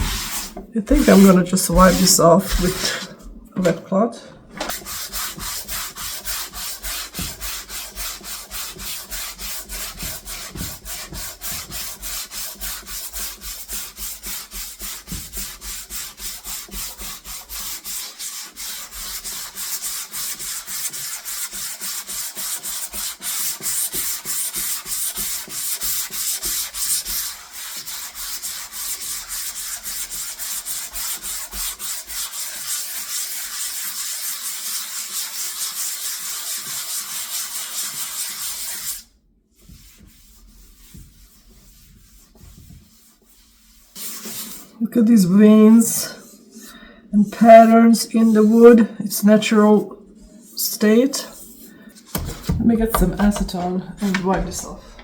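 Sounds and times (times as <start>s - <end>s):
sandpaper sanding wood: 0.0s - 3.1s, 4.6s - 44.7s, 51.2s - 55.0s.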